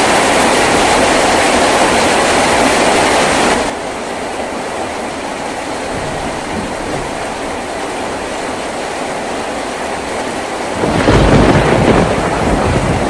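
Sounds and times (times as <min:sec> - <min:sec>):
heavy rain on a tin roof: 0:00.0 - 0:13.0.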